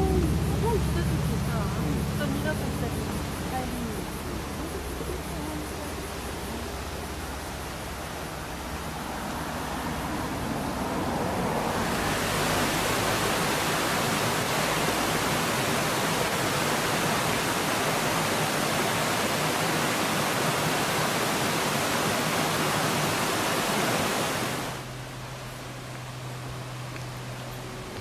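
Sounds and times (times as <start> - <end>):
mountain stream roaring: 0.0 - 28.0.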